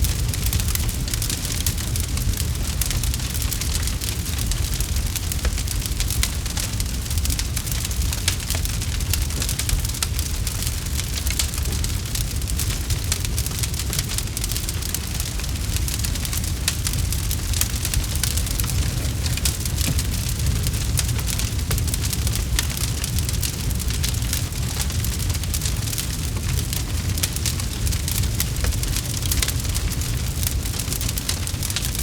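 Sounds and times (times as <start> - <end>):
campfire flames rumbling: 0.0 - 32.0
wood crackling and popping: 0.0 - 32.0.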